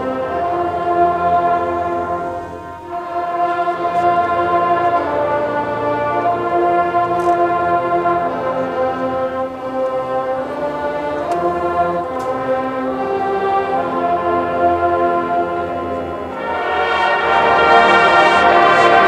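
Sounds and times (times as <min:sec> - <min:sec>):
brass band playing slow chorale: 0:00.0 - 0:19.0.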